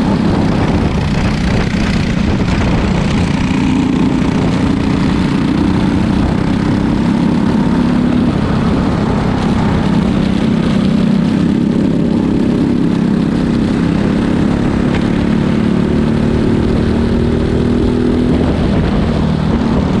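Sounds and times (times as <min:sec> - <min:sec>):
kart engine running: 0:00.0 - 0:20.0.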